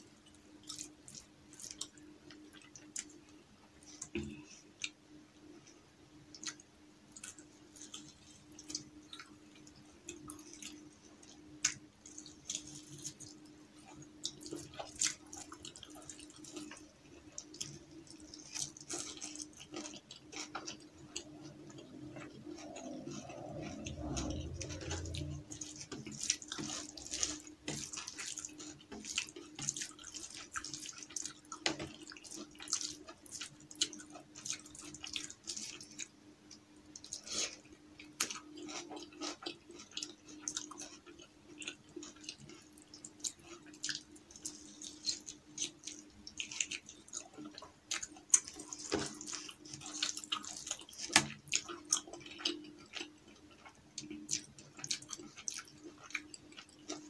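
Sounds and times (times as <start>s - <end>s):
faint low hum: 0.0s - 57.0s
chewing: 0.1s - 5.0s, 5.6s - 57.0s.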